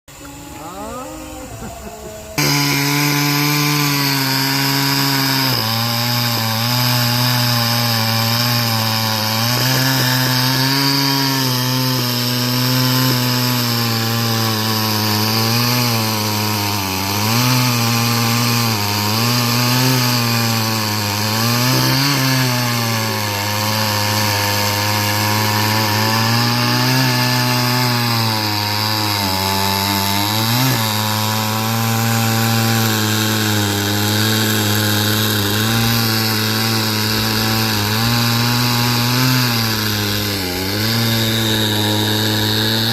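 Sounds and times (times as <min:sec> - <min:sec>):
sawmill saw cutting timber: 0:00.1 - 0:42.9.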